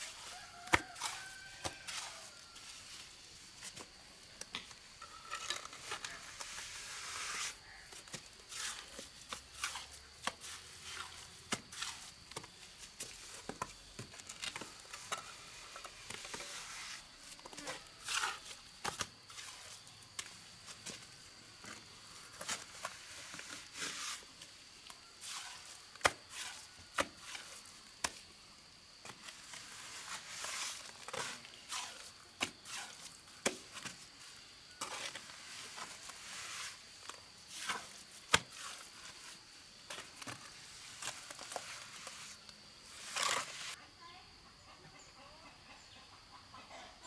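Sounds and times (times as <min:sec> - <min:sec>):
scraping on mortar: 0:00.0 - 0:28.3, 0:29.0 - 0:43.8.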